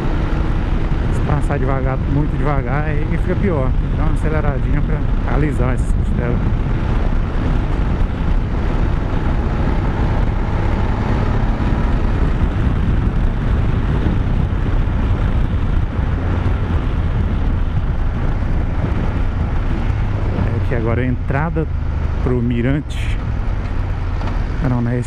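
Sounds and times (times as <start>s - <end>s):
motorcycle engine running: 0.0s - 25.0s
tyres rumbling over dirt road: 0.0s - 25.0s
wind on microphone: 0.0s - 25.0s.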